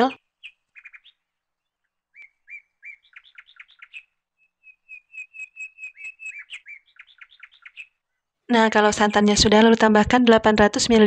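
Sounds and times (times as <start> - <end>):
small bird chirping: 0.0 - 9.4.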